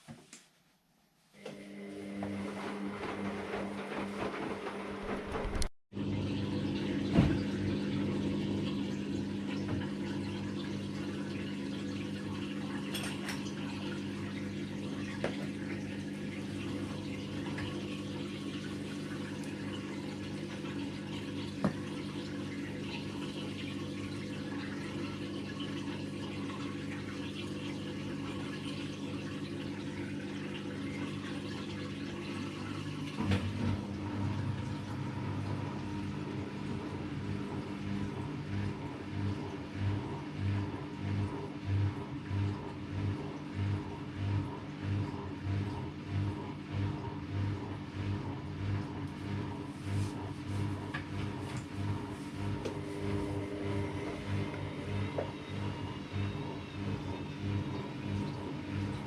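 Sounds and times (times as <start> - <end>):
washing machine humming: 0.0 - 59.0
water splashing inside machine: 1.6 - 59.0.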